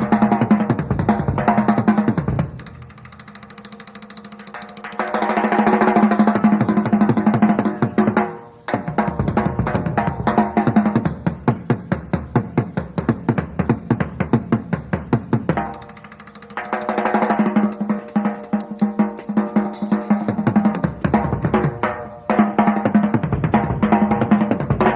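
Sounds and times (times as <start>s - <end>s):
snare drum roll: 0.0s - 24.9s
strokes on toms and bass drum: 0.0s - 24.9s.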